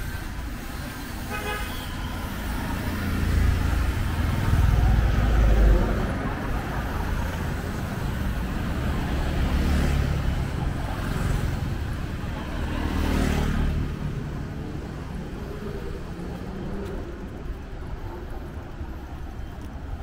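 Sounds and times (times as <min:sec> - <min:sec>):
cars and motorbikes driving past: 0:00.0 - 0:20.0
road hum: 0:00.0 - 0:20.0.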